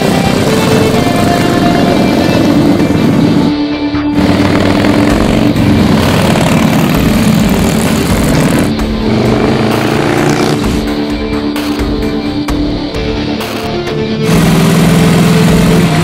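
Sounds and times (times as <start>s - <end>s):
loud motorcycle engine accelerating: 0.0s - 16.0s.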